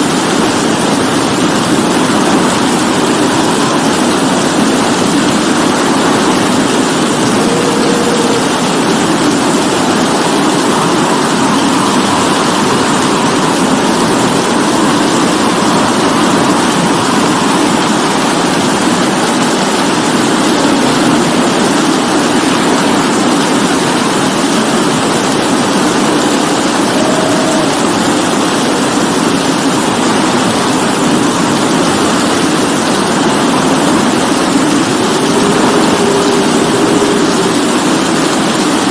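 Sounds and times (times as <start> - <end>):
faint wavering hum: 0.0 - 38.9
steady rain falling: 0.0 - 38.9.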